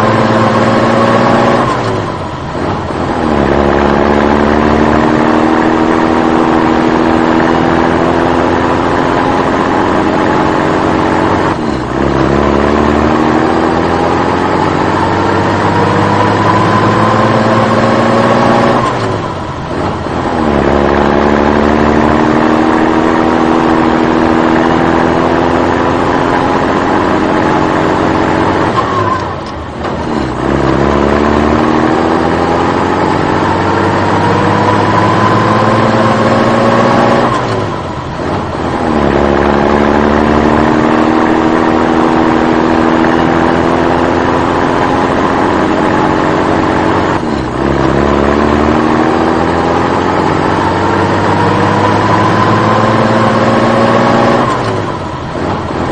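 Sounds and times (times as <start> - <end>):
vehicle engine accelerating: 0.0 - 55.9.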